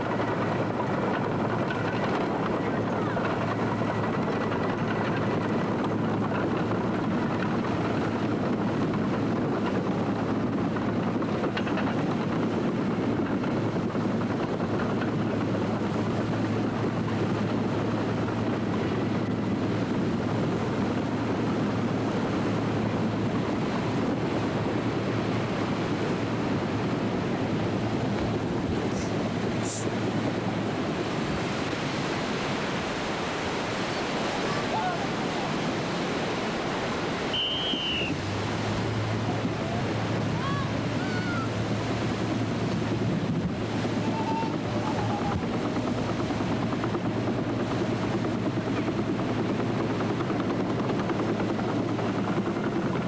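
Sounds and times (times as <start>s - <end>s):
surf and washing water: 0.0s - 53.0s.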